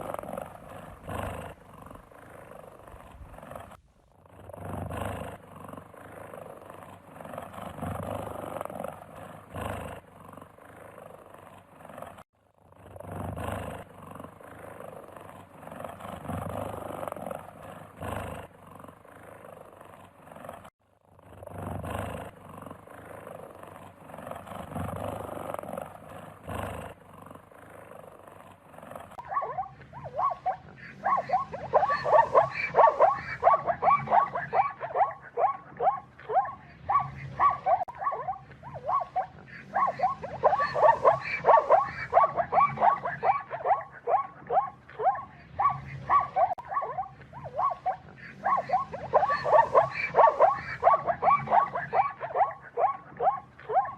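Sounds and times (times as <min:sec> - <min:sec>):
animal growling and roaring: 0:00.0 - 0:53.9.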